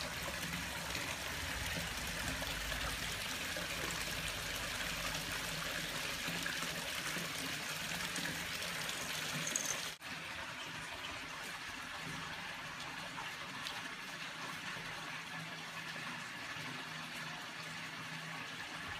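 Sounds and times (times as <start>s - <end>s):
water trickling: 0.0s - 18.9s.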